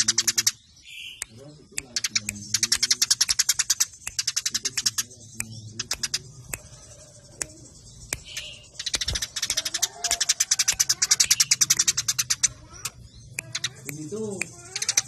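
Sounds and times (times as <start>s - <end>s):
sparrows chirping sharply: 0.0s - 15.0s.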